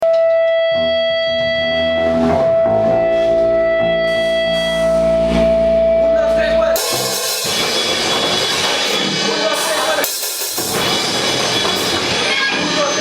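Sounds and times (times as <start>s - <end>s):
amplified guitar sustained notes: 0.0s - 13.0s.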